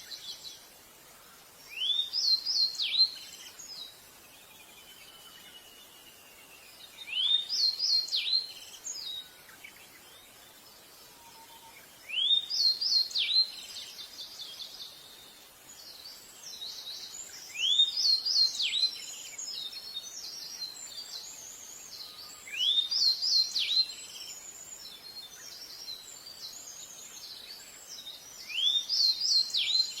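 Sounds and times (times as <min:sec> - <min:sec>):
bird song phrases: 0:00.0 - 0:30.0
soft bird chirps: 0:00.0 - 0:30.0.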